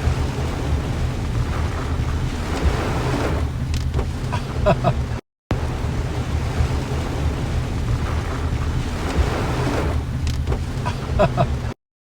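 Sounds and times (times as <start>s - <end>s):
wind buffeting microphone: 0.0s - 11.7s
rain and water rushing: 0.0s - 11.8s.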